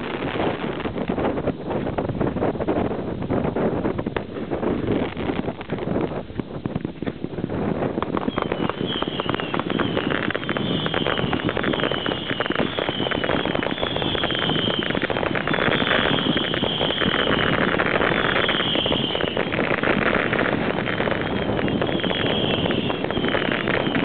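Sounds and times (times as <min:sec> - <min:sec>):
fireworks crackling: 0:00.0 - 0:24.0
high whistles of fireworks: 0:00.0 - 0:24.0
wind noise on microphone: 0:00.0 - 0:24.0.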